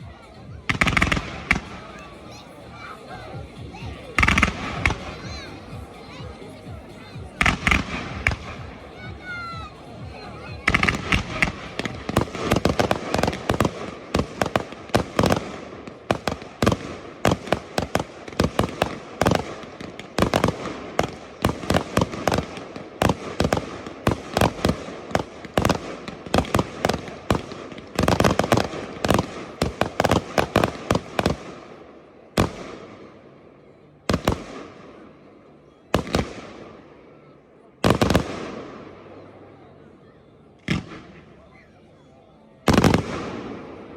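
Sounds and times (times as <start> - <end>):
fireworks bangs and crackle: 0.0 - 39.7, 40.6 - 41.7, 42.6 - 43.9.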